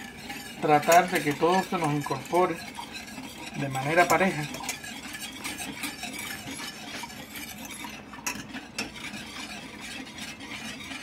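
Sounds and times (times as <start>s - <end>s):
whisk clinking on metal: 0.0s - 11.0s
whisk scraping in saucepan: 0.0s - 11.0s.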